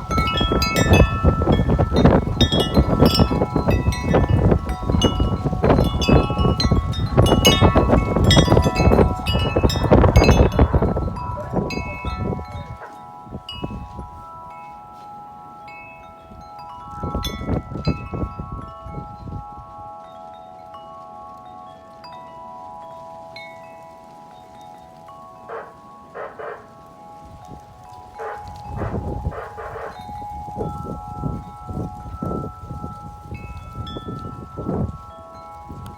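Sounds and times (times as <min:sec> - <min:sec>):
wind rumbling on microphone: 0:00.0 - 0:21.4, 0:22.0 - 0:35.9
wind chime ringing: 0:00.0 - 0:35.9.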